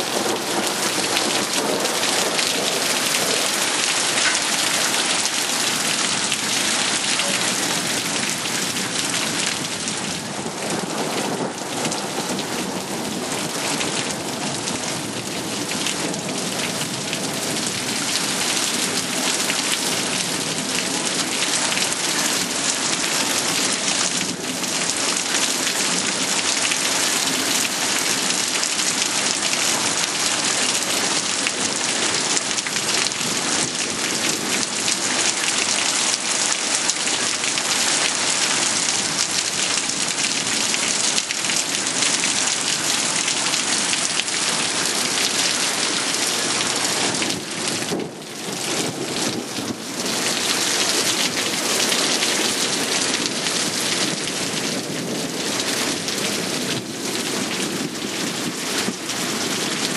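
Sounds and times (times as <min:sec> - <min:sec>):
rain hissing on surfaces: 0:00.0 - 0:59.9.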